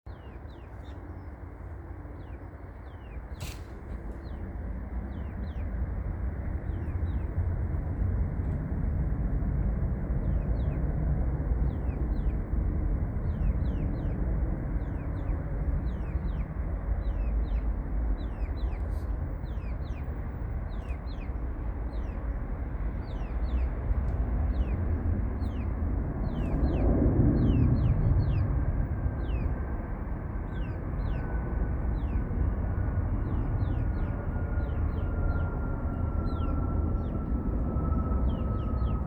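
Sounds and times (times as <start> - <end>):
small birds chirping: 0.1 - 7.4, 10.1 - 29.7, 30.4 - 37.3, 38.2 - 39.0
jet engines rumbling: 0.1 - 39.0.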